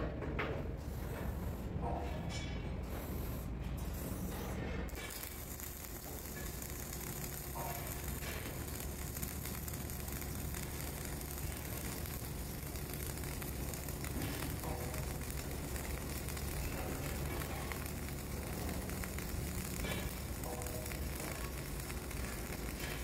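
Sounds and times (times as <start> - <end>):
welding arc crackling hiss: 2.9 - 23.0.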